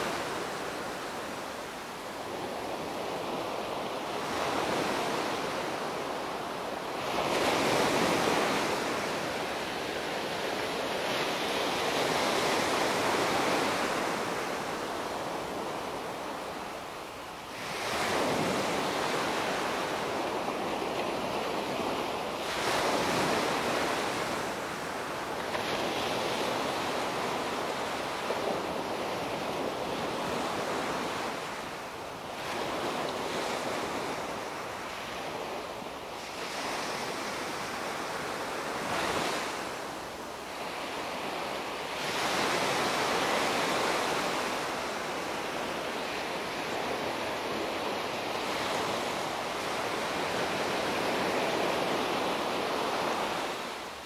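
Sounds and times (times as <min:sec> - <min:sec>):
small waves breaking on shore: 0:00.0 - 0:54.0.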